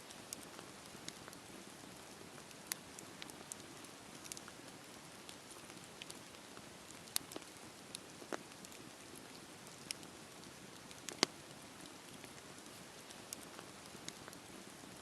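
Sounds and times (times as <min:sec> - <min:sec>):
campfire hissing: 0:00.0 - 0:15.0
wood crackling and popping: 0:00.0 - 0:15.0.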